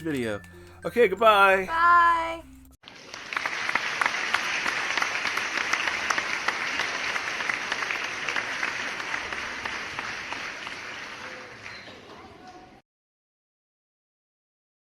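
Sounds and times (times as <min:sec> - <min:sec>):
crowd applauding: 0:00.0 - 0:12.6.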